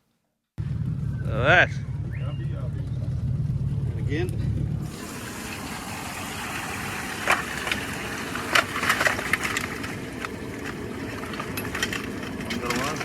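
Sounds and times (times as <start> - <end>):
background rumble: 0.6 - 13.0.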